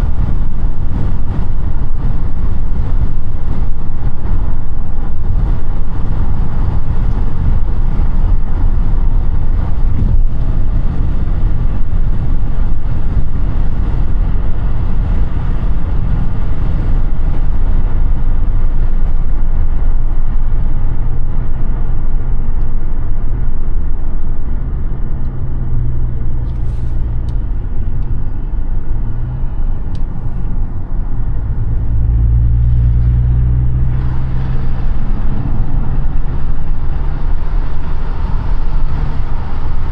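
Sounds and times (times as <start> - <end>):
car engine drone: 0.0 - 39.9
road and tyre rumble: 0.0 - 39.9.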